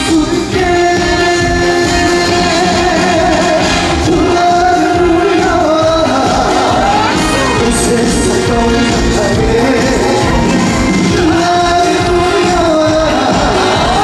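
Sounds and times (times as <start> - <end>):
live band playing: 0.0 - 14.0
man singing long notes: 0.0 - 14.0.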